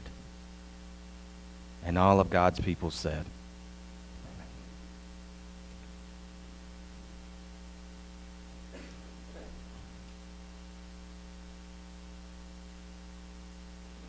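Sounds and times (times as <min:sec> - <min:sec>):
background hiss: 0:00.0 - 0:14.0
electrical mains hum: 0:00.0 - 0:14.0.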